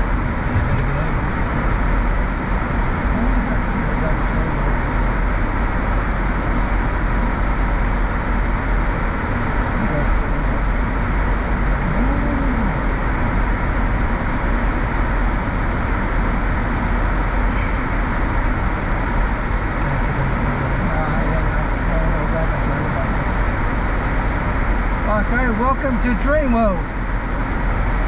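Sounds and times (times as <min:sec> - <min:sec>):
low engine rumble: 0:00.0 - 0:28.0
road and tyre noise: 0:00.0 - 0:28.0.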